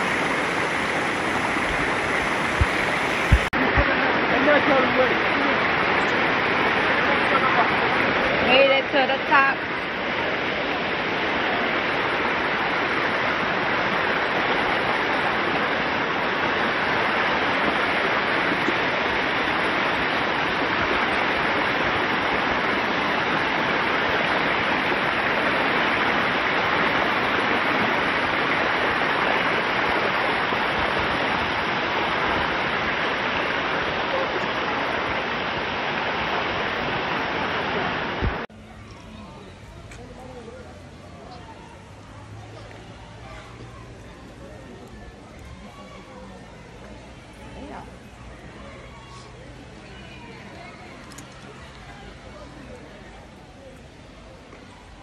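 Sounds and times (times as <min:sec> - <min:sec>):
water rushing over rock terraces: 0:00.0 - 0:55.0.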